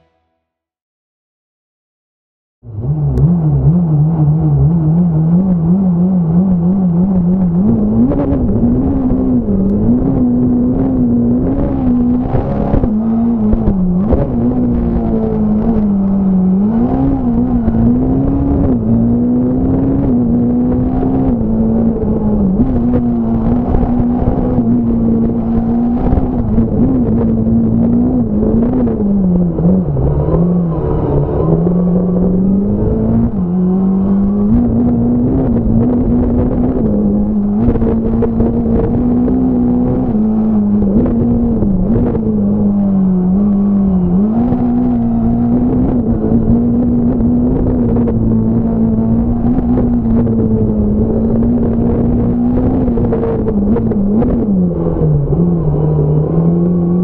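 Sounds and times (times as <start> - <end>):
rally car engine at high revs: 2.6 - 57.0.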